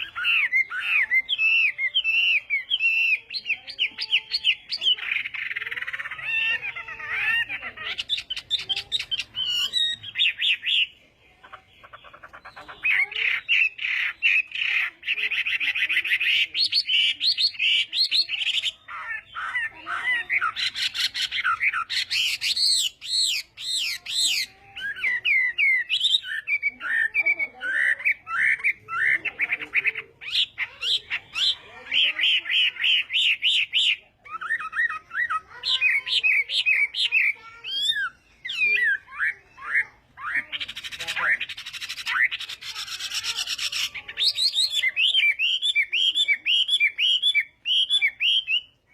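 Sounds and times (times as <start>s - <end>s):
songbird singing whistles and trills: 0.0s - 11.0s, 12.5s - 48.9s.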